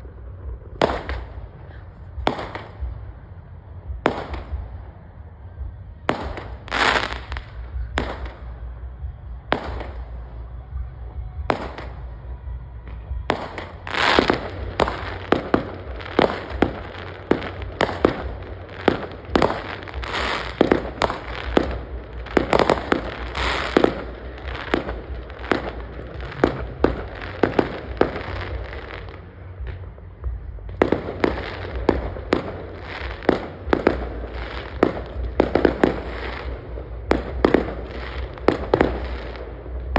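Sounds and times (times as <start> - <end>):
fireworks banging and popping: 0.0 - 39.9.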